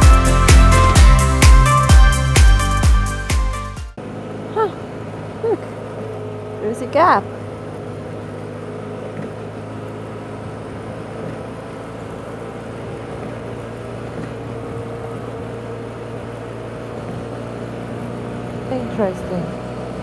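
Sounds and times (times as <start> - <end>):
motorcycle engine droning: 0.0 - 20.0
wind and road noise: 3.9 - 20.0.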